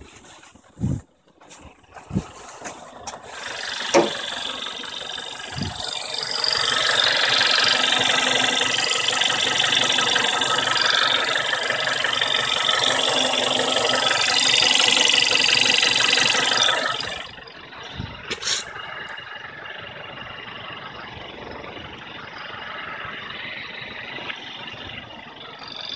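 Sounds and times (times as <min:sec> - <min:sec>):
car engine idling with ticking: 0:00.0 - 0:25.9.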